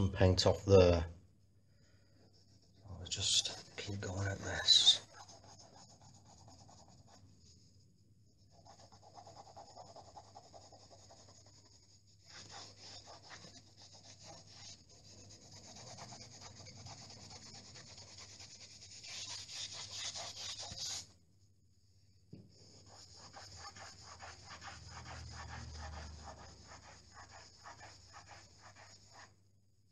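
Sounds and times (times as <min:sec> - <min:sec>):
cloth rubbing on a wall: 0:02.3 - 0:07.6, 0:08.4 - 0:21.1, 0:22.6 - 0:29.4.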